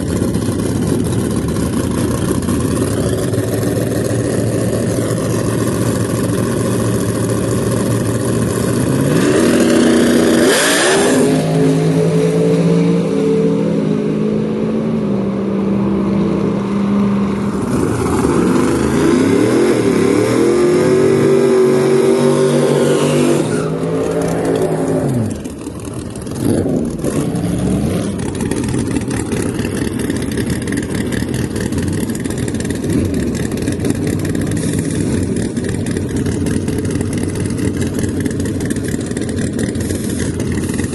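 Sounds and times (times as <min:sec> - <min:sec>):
drag car engines revving: 0:00.0 - 0:40.9.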